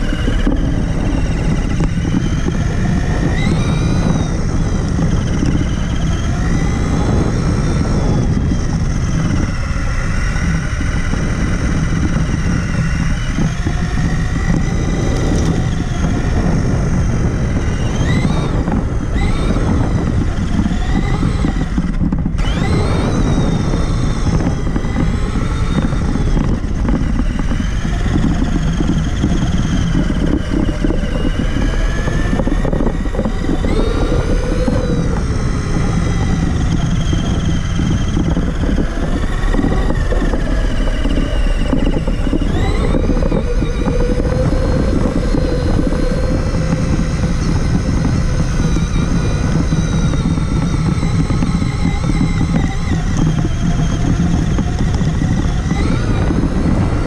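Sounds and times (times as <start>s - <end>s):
electric motor and gears whining: 0.0s - 57.0s
rough rumble of tyres: 0.0s - 57.0s.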